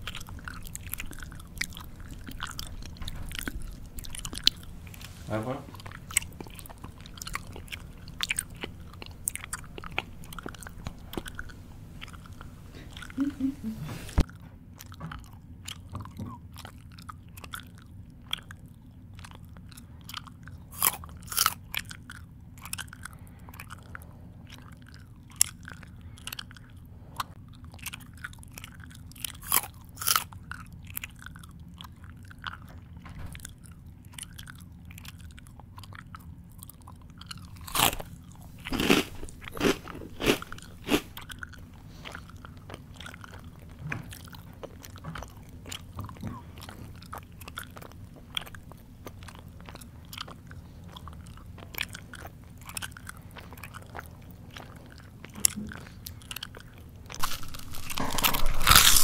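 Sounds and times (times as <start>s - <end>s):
mouth chewing crunchy food: 0.0s - 59.0s.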